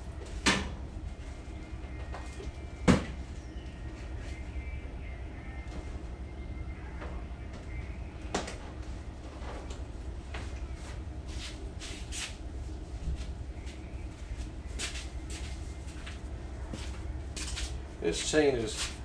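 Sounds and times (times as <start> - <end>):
low hum: 0.0 - 18.1.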